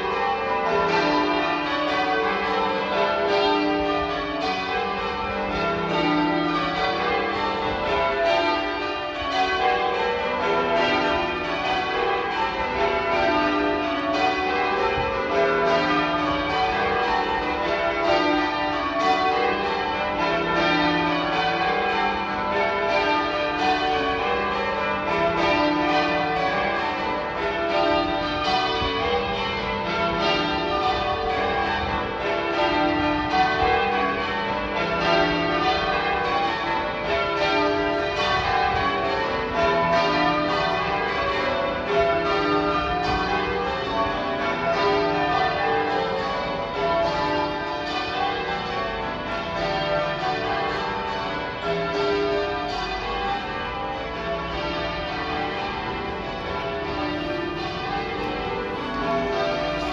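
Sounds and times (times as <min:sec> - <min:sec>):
church bells change ringing: 0:00.0 - 0:59.9.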